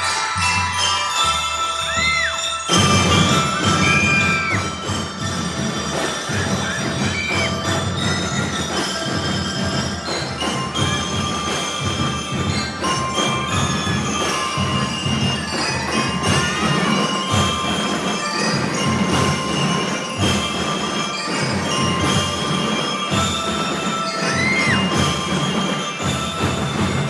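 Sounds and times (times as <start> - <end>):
bell lyres ringing melody: 0.0 - 27.0
marching drums beat: 0.0 - 27.0.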